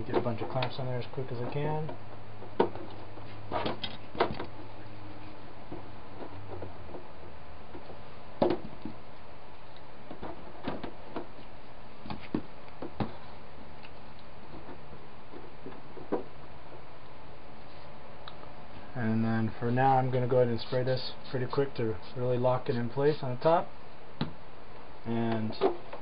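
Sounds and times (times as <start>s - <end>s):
room hiss: 0.0s - 26.0s.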